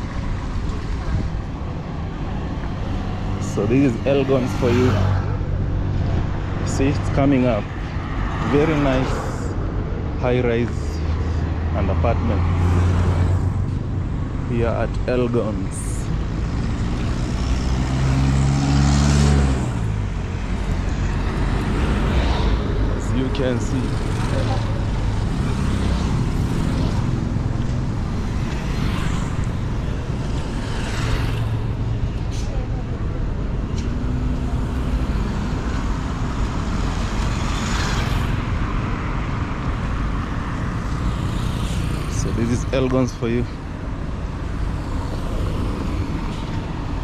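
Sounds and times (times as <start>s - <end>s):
road traffic noise: 0.0s - 47.0s.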